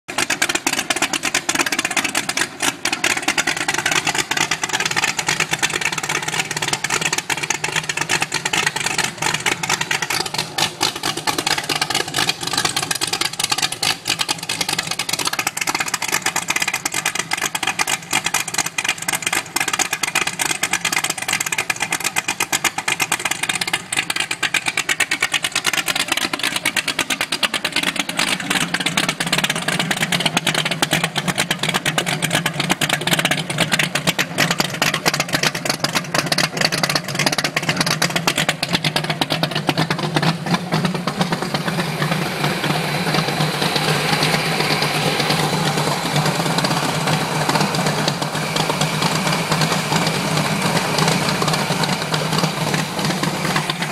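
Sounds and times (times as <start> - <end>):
boat engines running: 0.1 - 53.9.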